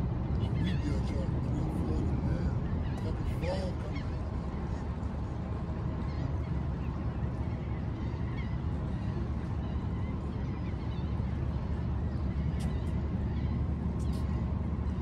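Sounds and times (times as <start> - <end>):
harbour noise: 0.0 - 15.0
wind rumble: 0.0 - 15.0.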